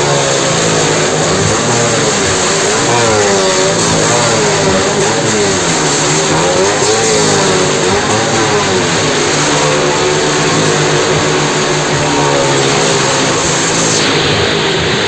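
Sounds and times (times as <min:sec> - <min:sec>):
car and motorcycle engines revving: 0:00.0 - 0:15.0.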